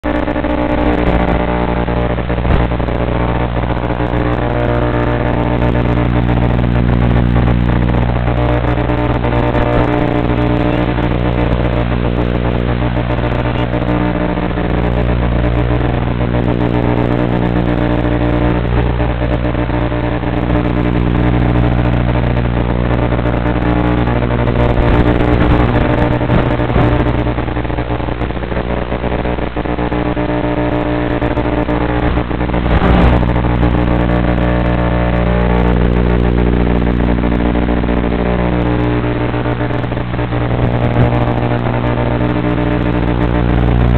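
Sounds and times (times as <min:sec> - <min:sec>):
electrical interference buzz: 0:00.0 - 0:43.9.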